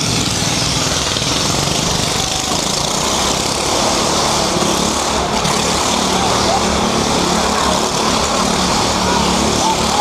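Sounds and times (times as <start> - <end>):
stunt vehicle engine running: 0.0 - 10.0.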